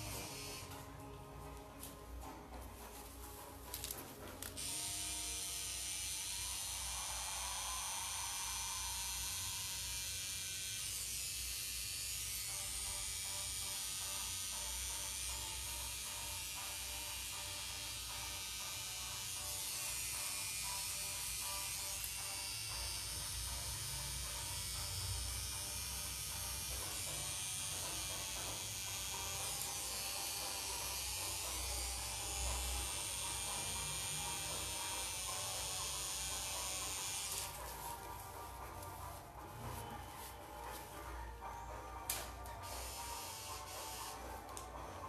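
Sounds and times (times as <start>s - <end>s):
tattoo machine buzzing: 0.0s - 1.1s, 2.8s - 45.0s.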